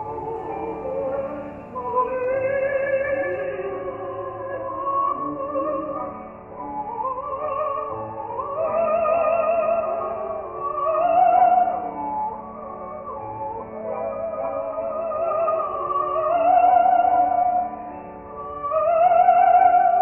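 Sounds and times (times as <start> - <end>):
slow melody with wavering vibrato: 0.0 - 20.0.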